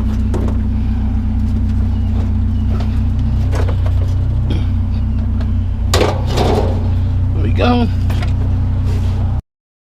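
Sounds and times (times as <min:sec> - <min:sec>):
vehicle engine idling: 0:00.0 - 0:09.4.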